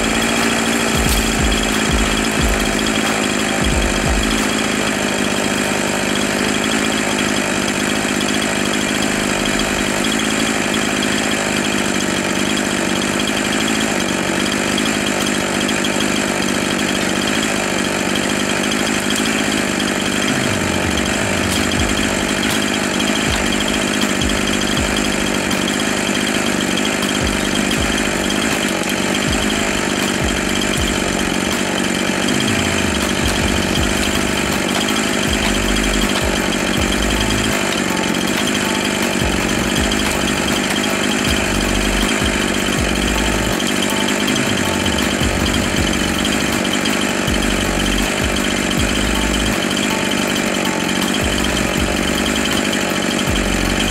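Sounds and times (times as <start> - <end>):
chainsaw idling: 0.0 - 53.9.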